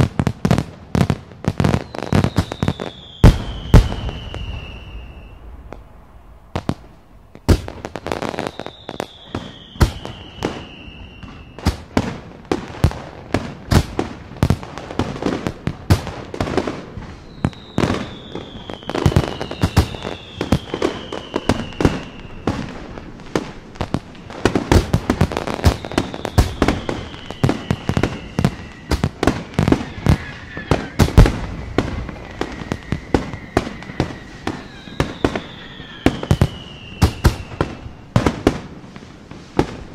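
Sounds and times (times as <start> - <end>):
fireworks bangs and crackles: 0.0 - 39.9
fireworks whistling: 0.0 - 39.9.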